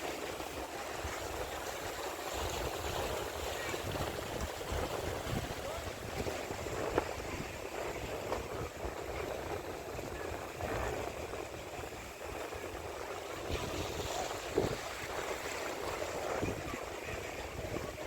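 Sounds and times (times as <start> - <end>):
sea surf washing: 0.0 - 18.0
wind buffeting microphone: 0.4 - 18.0.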